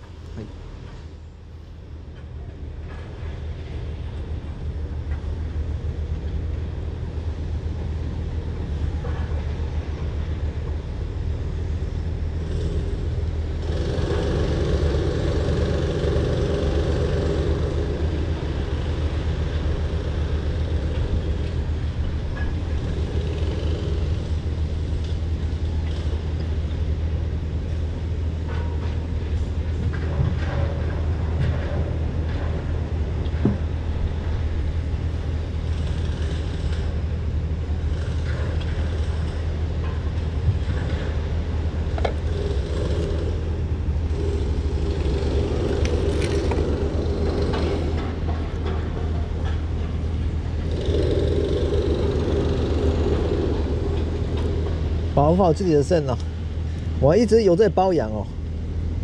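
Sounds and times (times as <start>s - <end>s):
low mechanical rumble: 0.0s - 59.0s.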